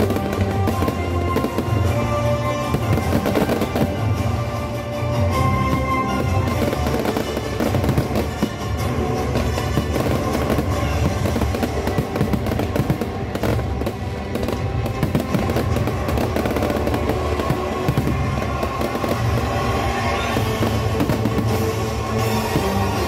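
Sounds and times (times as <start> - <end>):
fireworks bangs and crackling: 0.0 - 23.0
music from loudspeakers: 0.0 - 23.0.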